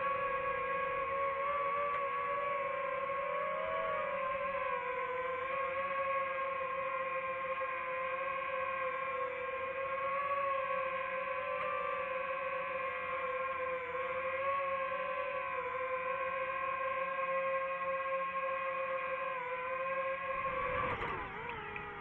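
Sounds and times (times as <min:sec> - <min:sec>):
droning ambient pad: 0:00.0 - 0:22.0.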